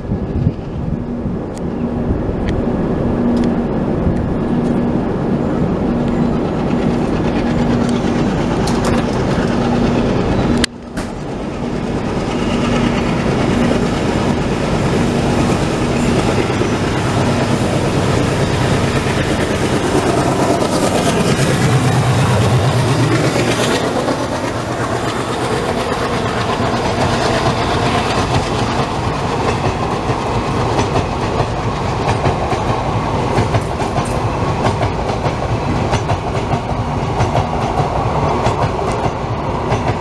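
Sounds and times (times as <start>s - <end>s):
train wheels on rails: 0.0s - 40.0s.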